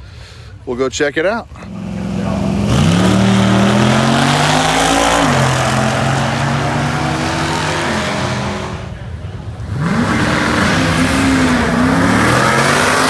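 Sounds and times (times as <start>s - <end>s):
race car engine accelerating: 1.5s - 13.0s.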